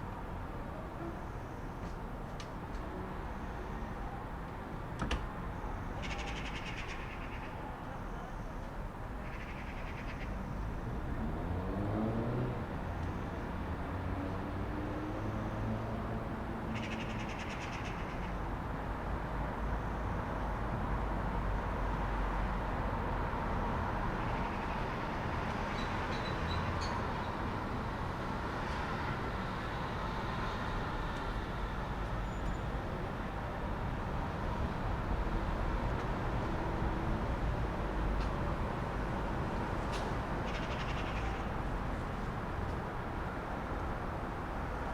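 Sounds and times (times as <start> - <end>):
distant traffic rumble: 0.0 - 44.9.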